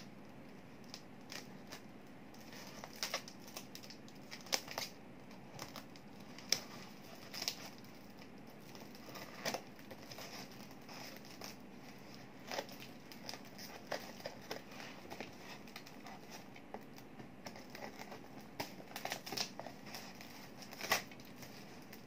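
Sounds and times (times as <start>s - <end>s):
scissors cutting shrink wrap: 0.9s - 5.0s, 5.6s - 22.0s.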